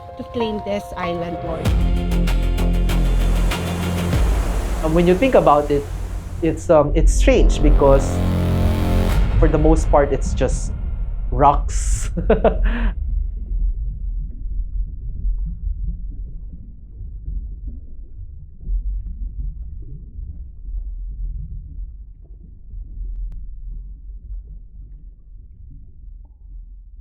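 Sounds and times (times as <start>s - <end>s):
deep low rumble: 1.2s - 27.0s.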